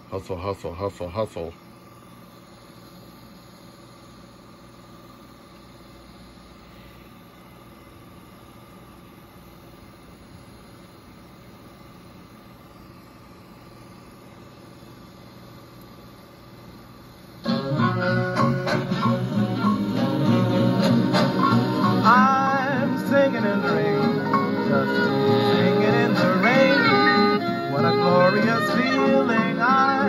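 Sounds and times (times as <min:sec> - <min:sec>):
tape hiss and hum: 0:00.0 - 0:30.0
tape recorder motor running: 0:00.0 - 0:30.0.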